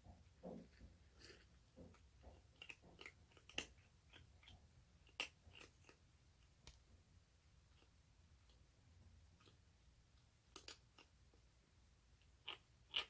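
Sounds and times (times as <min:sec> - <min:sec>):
kitten chewing crunchy food: 0:00.0 - 0:06.6, 0:07.6 - 0:11.6, 0:12.2 - 0:13.0.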